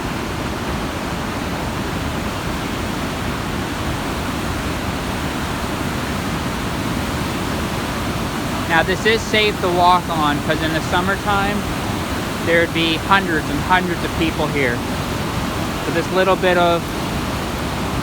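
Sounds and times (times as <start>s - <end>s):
river rushing: 0.0s - 18.0s.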